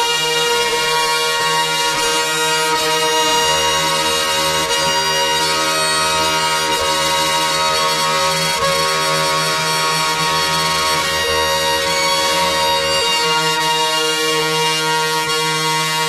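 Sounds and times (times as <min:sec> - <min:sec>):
dense drone of overlapping tones: 0:00.2 - 0:16.0.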